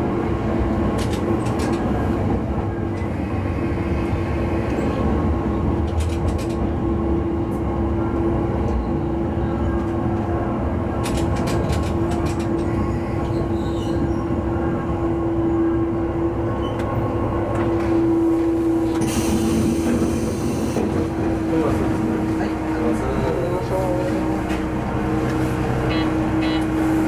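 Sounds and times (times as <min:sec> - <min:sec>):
railcar engine drone: 0:00.0 - 0:27.0.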